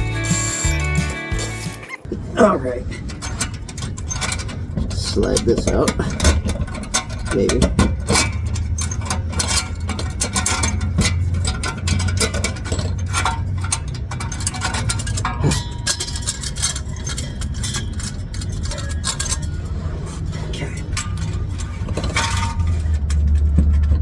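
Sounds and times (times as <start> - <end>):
steady low hum: 0.0 - 24.0
metallic clicks and knocks: 2.9 - 24.0.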